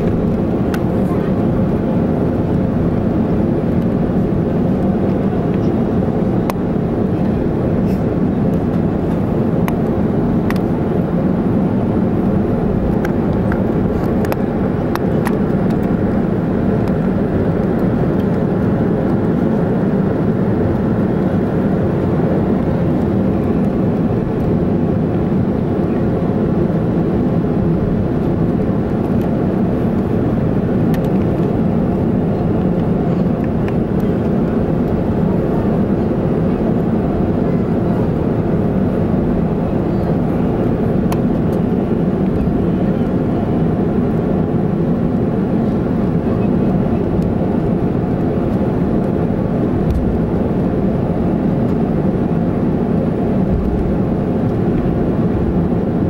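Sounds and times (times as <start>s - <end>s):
jet engines humming: 0.0s - 56.0s.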